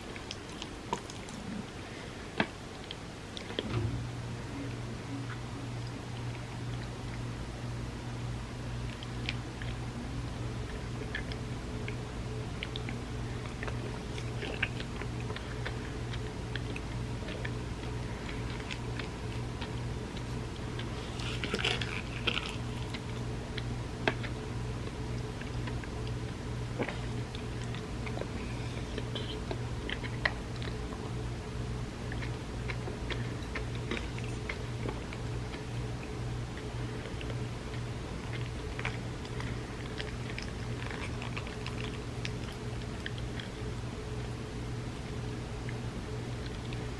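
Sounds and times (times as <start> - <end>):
soft chewing and mouth sounds: 0.0 - 46.9
steady low hum: 0.0 - 46.9.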